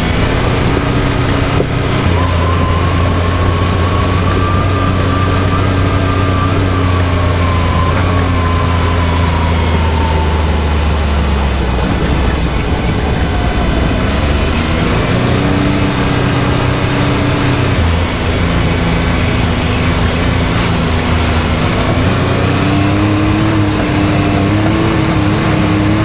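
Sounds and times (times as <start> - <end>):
engine droning with faint whine: 0.0 - 26.0.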